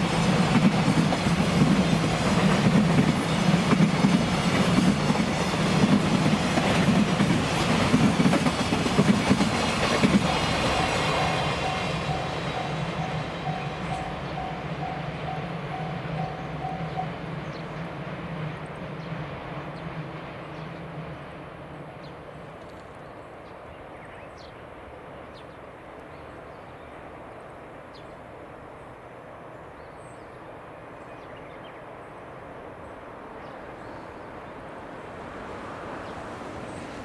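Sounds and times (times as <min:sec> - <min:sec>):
electric train hum and rumble: 0:00.0 - 0:37.0.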